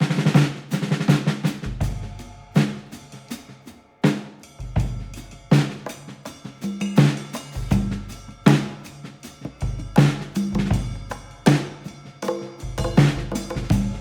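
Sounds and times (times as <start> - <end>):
drum-heavy background music: 0.0 - 14.0.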